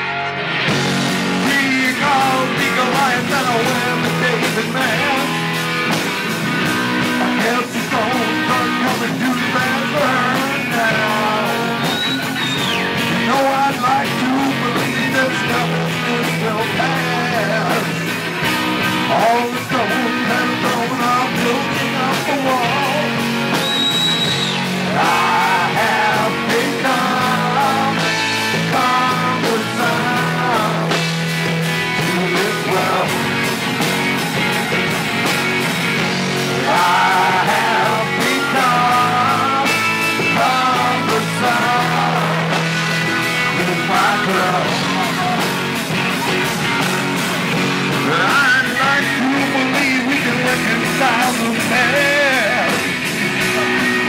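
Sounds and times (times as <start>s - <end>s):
bass guitar: 0.0s - 54.0s
drum kit: 0.0s - 54.0s
electric guitars: 0.0s - 54.0s
man singing: 1.2s - 5.6s, 7.0s - 18.1s, 19.0s - 33.5s, 36.5s - 45.8s, 47.9s - 54.0s.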